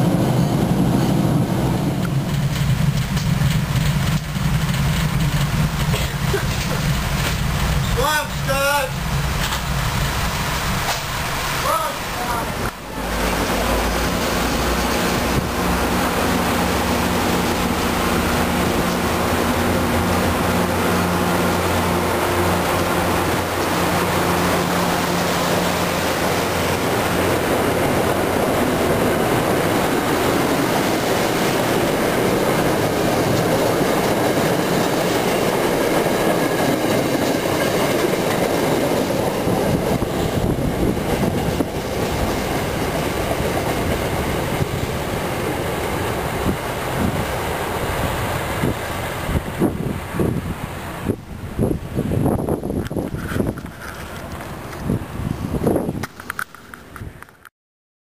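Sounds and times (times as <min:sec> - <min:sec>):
train wheels rumbling on rail: 0:00.0 - 0:57.5.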